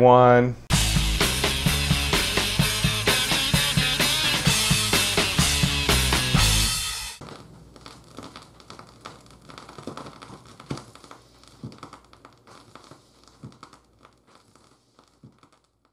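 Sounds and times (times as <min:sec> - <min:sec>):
vinyl record crackles and pops: 0:00.7 - 0:15.9.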